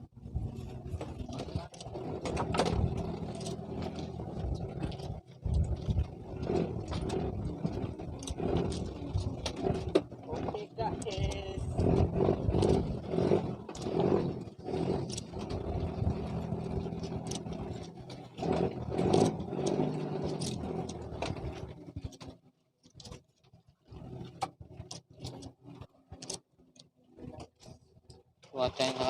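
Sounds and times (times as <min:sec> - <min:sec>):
engine running: 0:00.0 - 0:29.0
faint clicks and knocks: 0:00.4 - 0:28.6.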